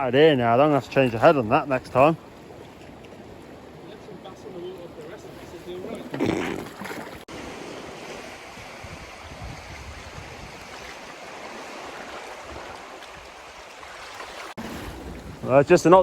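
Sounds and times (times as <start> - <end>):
surf washing over rocks: 0.4 - 16.0.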